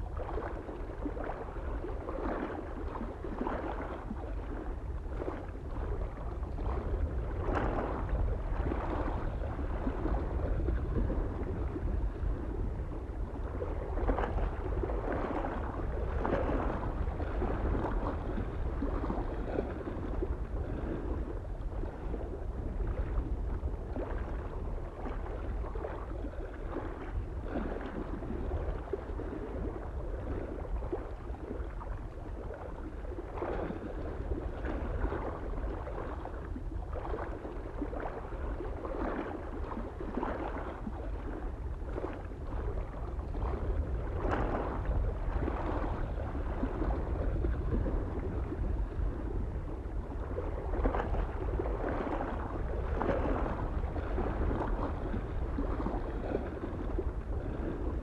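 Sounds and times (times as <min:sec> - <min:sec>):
small waves lapping on shore: 0:00.0 - 0:58.0
soft wind rumble: 0:00.0 - 0:58.0.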